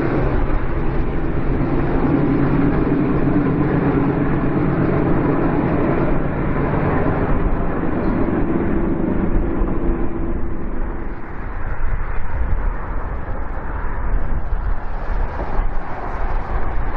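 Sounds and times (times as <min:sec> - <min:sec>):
freight train rumbling over bridge: 0:00.0 - 0:16.9
wind on microphone: 0:00.0 - 0:16.9.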